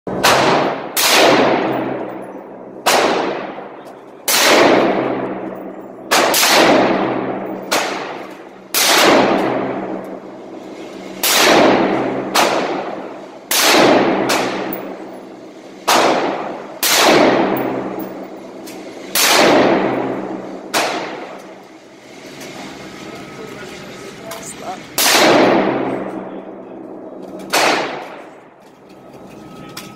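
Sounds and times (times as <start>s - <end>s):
gunshots with echo: 0.1s - 21.4s, 25.0s - 28.4s.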